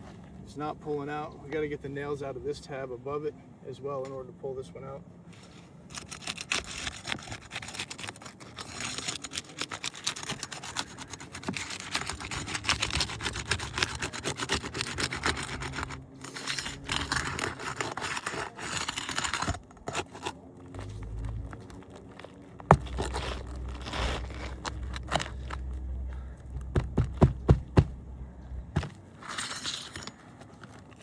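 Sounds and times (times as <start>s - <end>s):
scraping on shingles: 5.3s - 28.0s, 28.7s - 31.0s.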